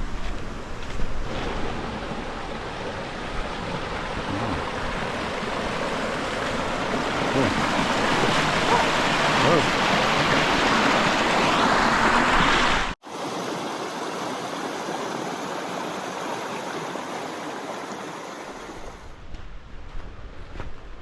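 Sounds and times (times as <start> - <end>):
water running over rocks: 0.0 - 19.1.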